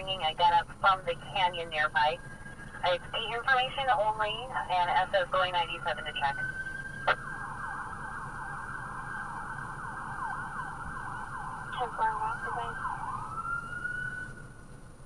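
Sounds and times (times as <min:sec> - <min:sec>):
siren over radio transmission: 0:00.0 - 0:14.5.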